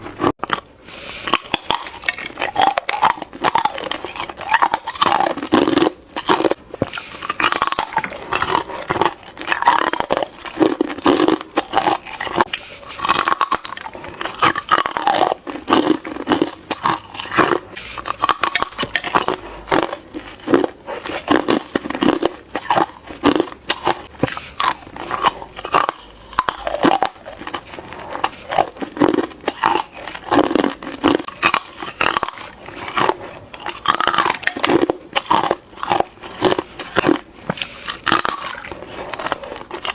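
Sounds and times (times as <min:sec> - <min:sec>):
ice being bitten crunching: 0:00.0 - 0:39.9.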